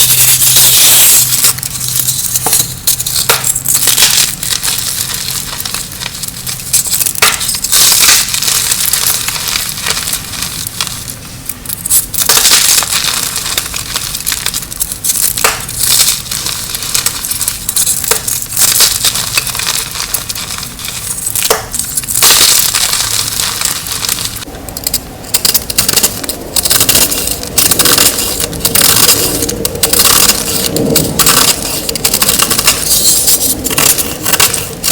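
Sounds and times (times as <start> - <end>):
chalk crunching and crumbling: 0.0 - 34.9
chalk pieces cracking: 0.0 - 34.9.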